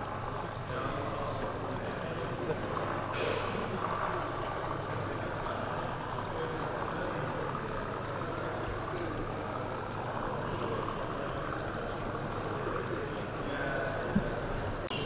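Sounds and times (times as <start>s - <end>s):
many voices murmuring: 0.0s - 15.0s.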